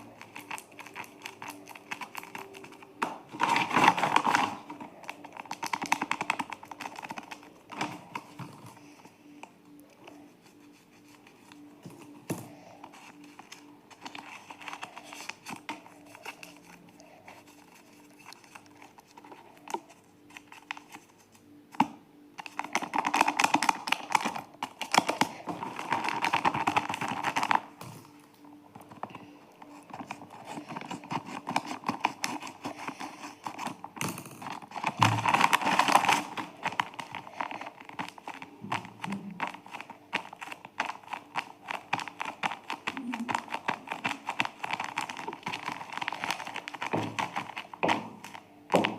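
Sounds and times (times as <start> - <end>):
paper crinkling and rustling: 0.0 - 48.9.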